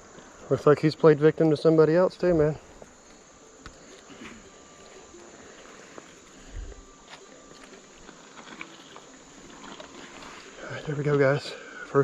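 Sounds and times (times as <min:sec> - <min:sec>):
insects: 0:00.0 - 0:12.0.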